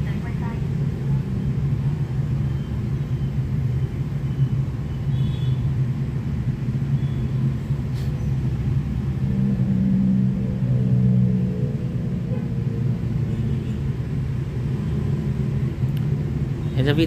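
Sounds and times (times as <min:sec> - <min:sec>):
low hum and rumble: 0:00.0 - 0:16.7.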